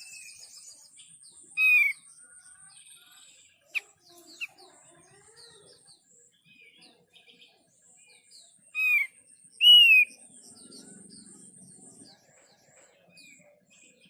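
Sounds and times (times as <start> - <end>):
small songbirds chirping: 0.0 - 14.0.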